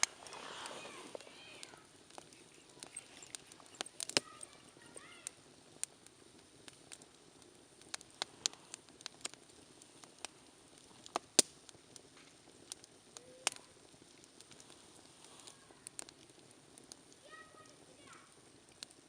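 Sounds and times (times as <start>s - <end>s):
campfire crackling: 0.0s - 19.0s
faint steady hiss: 0.0s - 19.0s.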